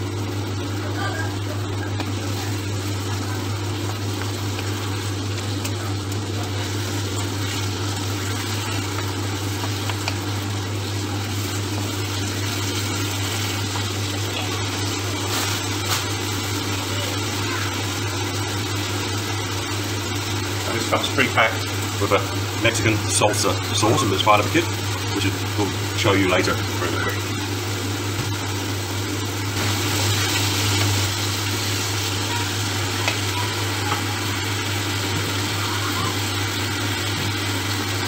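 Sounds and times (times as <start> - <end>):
meat sizzling in a frying pan: 0.0 - 38.0.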